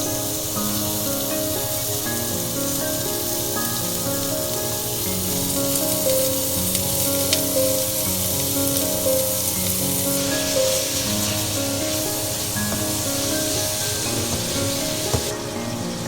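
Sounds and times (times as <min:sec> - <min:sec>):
food sizzling in a pan: 0:00.0 - 0:16.0
soft background music: 0:00.0 - 0:16.0.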